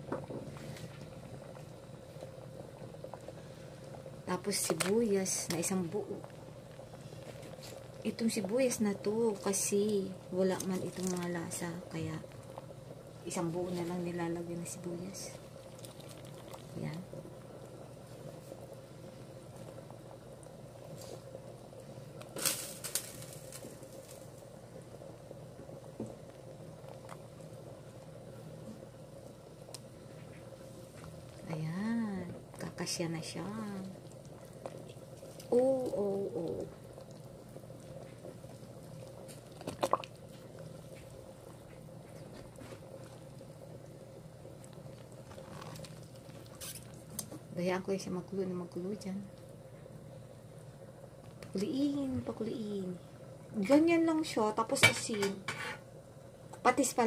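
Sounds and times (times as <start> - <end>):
broth simmering and bubbling: 0.0 - 57.0.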